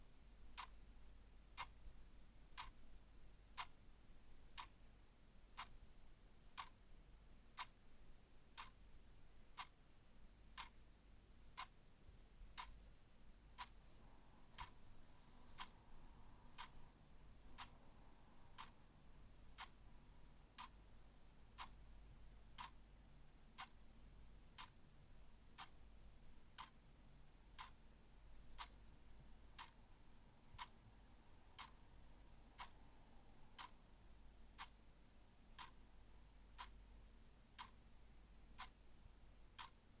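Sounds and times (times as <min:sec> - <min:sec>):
clock ticking: 0:00.0 - 0:40.0.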